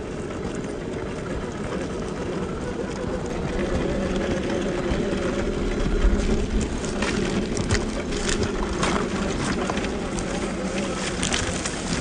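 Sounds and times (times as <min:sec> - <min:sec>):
gravel crunching under tyres: 0:00.0 - 0:12.0
toy car electric motor whining: 0:01.4 - 0:11.7.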